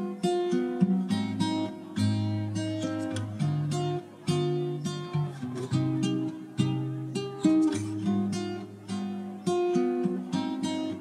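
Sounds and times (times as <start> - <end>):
strummed acoustic guitar chords: 0.0 - 11.0.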